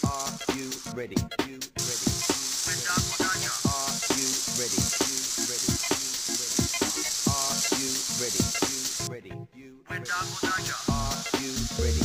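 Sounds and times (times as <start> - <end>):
pancake sizzling in a pan: 0.0 - 1.0, 1.8 - 9.1, 10.1 - 12.0
background music: 0.0 - 12.0.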